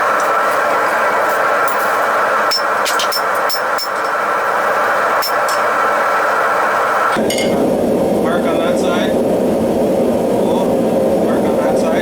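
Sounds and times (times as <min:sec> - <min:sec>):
gas forge roaring: 0:00.0 - 0:12.0.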